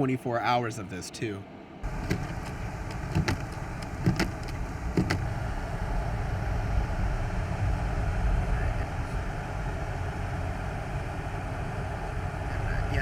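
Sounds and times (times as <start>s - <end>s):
car driving rumble: 1.8s - 13.0s.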